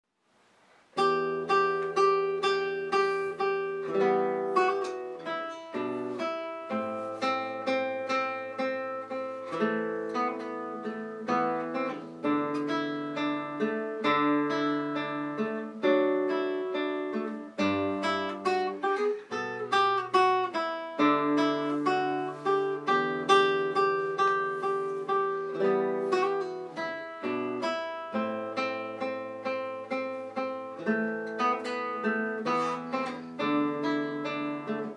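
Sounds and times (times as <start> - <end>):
fingerstyle classical guitar: 0.6 - 34.9.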